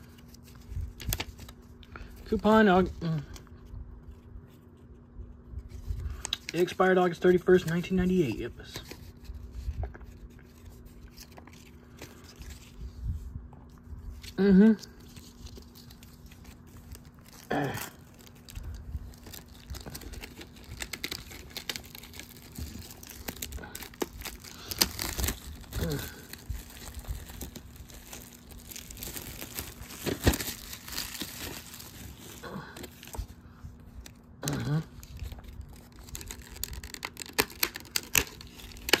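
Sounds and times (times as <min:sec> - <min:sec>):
packaging crinkling and rustling: 0:00.0 - 0:39.0.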